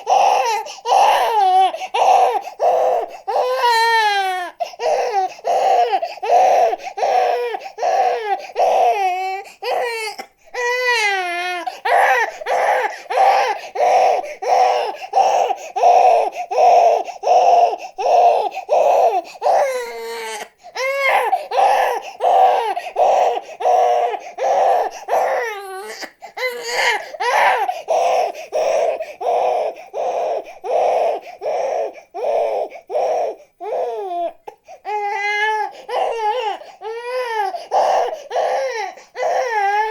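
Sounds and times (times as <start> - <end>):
infant crying: 0.0 - 39.9.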